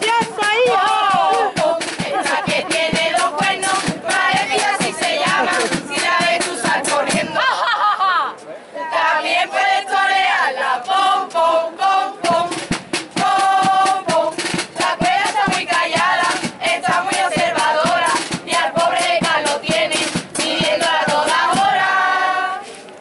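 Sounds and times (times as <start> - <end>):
group singing in chorus: 0.3 - 7.7, 8.8 - 22.6.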